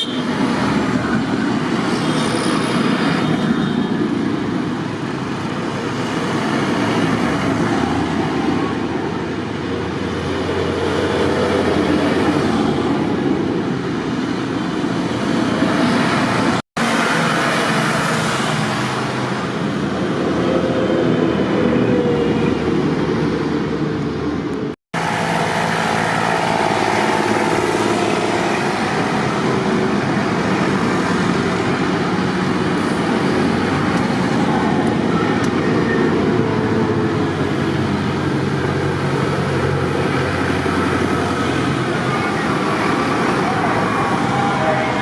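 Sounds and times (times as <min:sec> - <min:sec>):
tractor engines running: 0:00.0 - 0:45.0.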